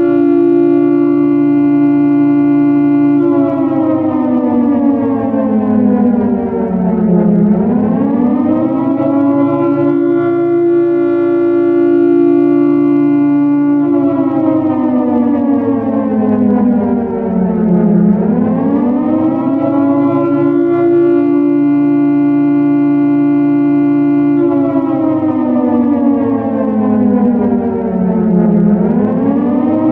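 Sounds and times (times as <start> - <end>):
air raid siren wailing: 0.0 - 29.9.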